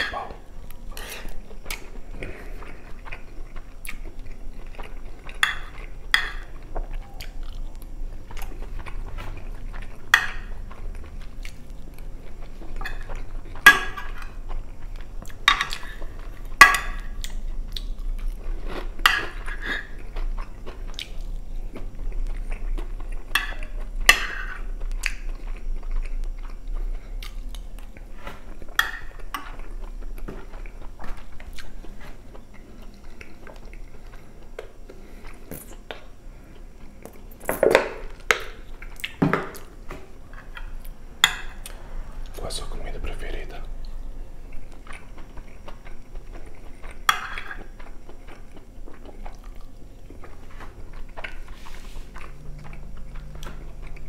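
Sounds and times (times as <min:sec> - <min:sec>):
close chewing of food: 0:00.1 - 0:54.0.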